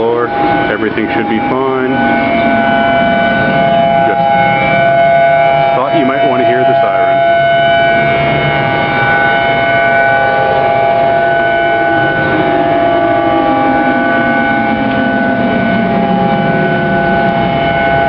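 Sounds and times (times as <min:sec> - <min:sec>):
civil defense sirens steady tone: 0:00.0 - 0:18.0
lower siren tone sliding downward: 0:00.0 - 0:18.0.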